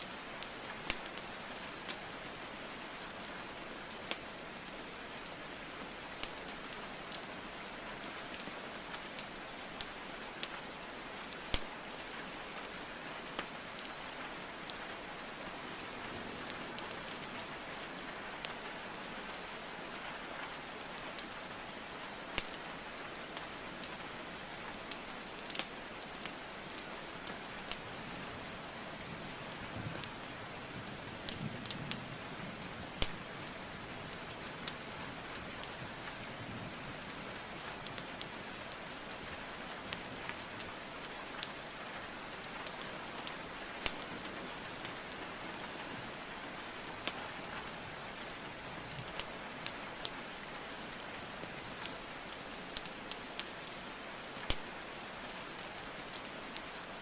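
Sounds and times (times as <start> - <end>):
steady rainfall hiss: 0.0 - 57.0
wood fire crackling: 0.0 - 57.0.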